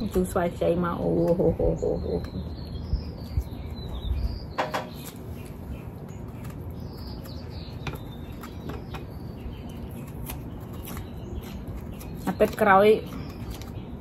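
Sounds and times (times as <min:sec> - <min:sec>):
low background hum: 0:00.0 - 0:14.0
small birds chirping: 0:00.0 - 0:14.0.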